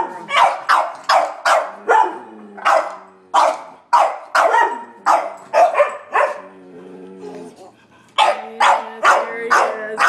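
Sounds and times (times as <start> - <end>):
dogs barking: 0.0 - 6.5, 8.2 - 10.0.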